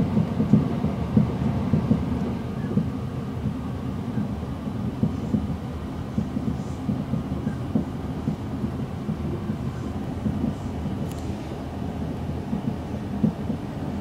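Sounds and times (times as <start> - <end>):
train knocks and rattles: 0.0 - 14.0
train rumbling: 0.0 - 14.0.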